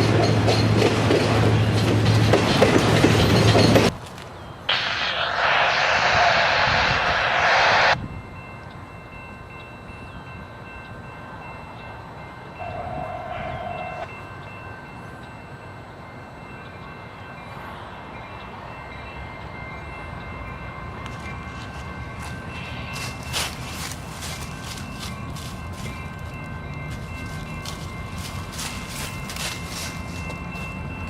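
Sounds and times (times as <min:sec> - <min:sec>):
freight train rumbling past: 0:00.0 - 0:04.0, 0:04.7 - 0:31.0.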